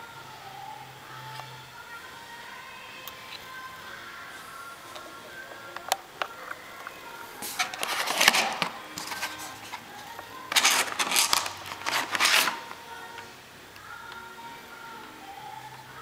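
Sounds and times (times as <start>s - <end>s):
faint background music: 0.0s - 16.0s.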